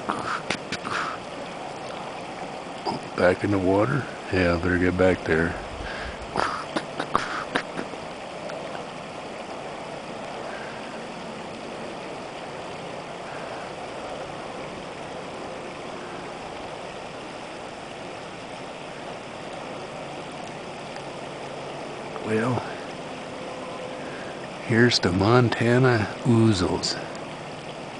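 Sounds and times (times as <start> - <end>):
creek flowing: 0.0 - 27.9.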